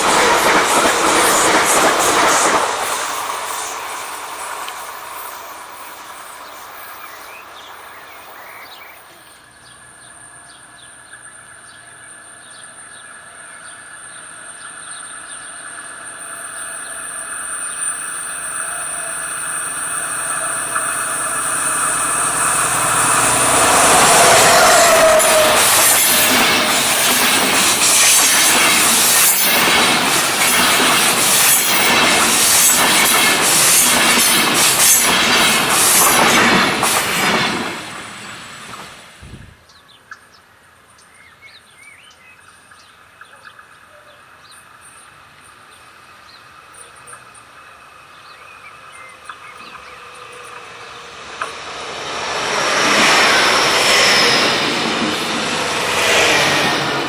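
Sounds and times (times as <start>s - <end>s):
train passing: 0.0s - 40.9s, 41.9s - 57.0s.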